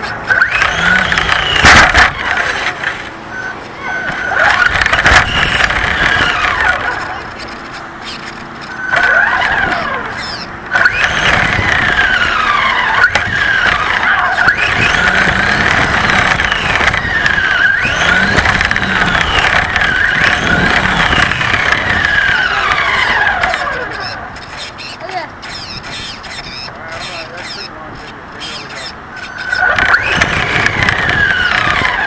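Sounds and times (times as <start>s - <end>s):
toy car motor whining: 0.0s - 32.0s.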